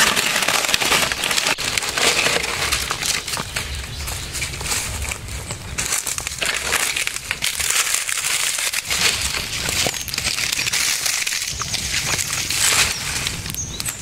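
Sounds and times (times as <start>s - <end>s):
fire crackling and snapping: 0.0s - 14.0s.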